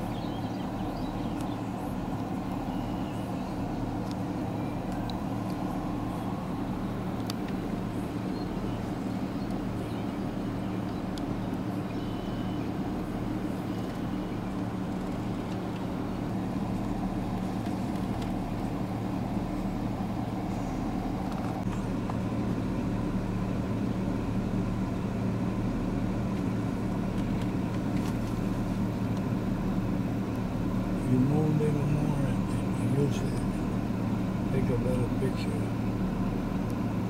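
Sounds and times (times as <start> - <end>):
engine running steadily: 0.0 - 37.0.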